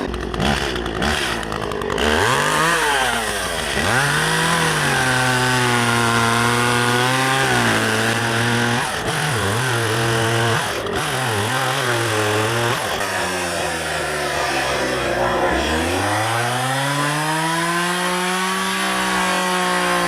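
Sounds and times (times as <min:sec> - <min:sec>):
chainsaw cutting logs: 0:00.0 - 0:20.0.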